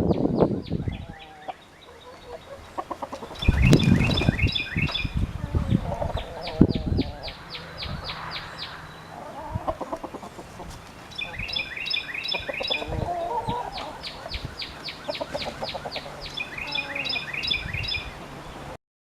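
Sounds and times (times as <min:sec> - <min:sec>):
songbirds trilling: 0:00.0 - 0:18.8
hens clucking: 0:00.9 - 0:18.2.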